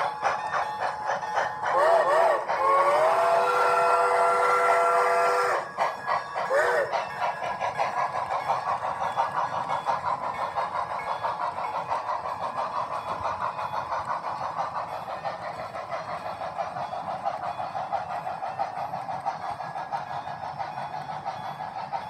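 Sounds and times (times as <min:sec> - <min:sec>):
model train clattering on track: 0:00.0 - 0:22.0.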